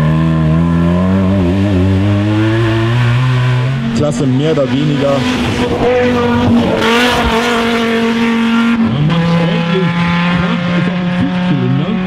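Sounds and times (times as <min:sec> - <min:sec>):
rally car engine at high revs: 0:00.0 - 0:12.0
gritty rush of noise: 0:00.6 - 0:12.0.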